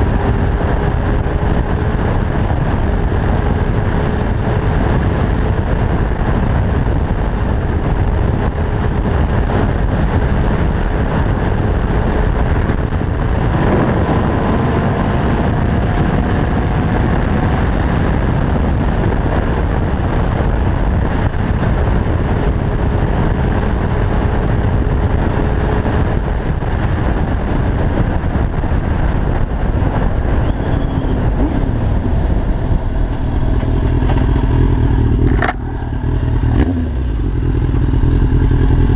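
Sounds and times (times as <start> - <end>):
motorcycle engine at speed: 0.0 - 38.9
wind rush: 0.0 - 38.9.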